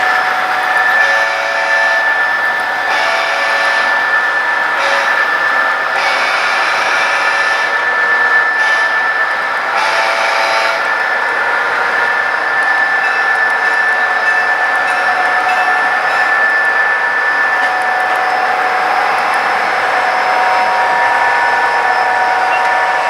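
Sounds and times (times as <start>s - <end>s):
model train whine: 0.0s - 23.0s
wheels rushing on rails: 0.0s - 23.0s.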